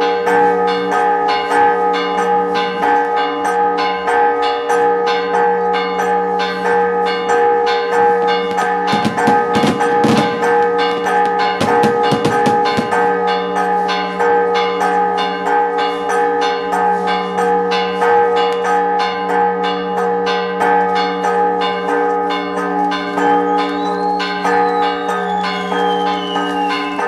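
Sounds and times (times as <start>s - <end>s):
church bells pealing: 0.0s - 27.0s.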